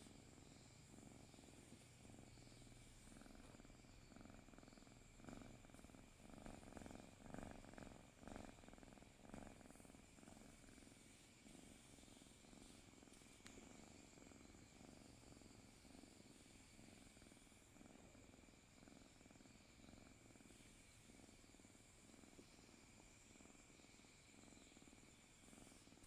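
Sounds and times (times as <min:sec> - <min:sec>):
cat purring faintly: 0:00.0 - 0:26.0.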